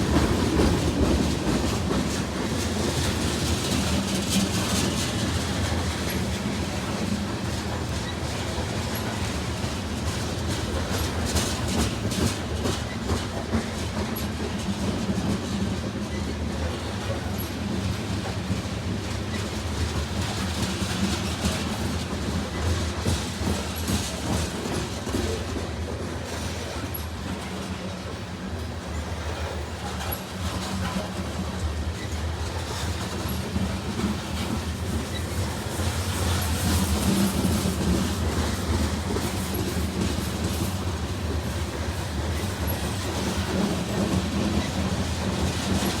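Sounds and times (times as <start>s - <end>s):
freight train rumbling past: 0.0s - 46.0s
wheels clacking over rail joints: 0.0s - 46.0s.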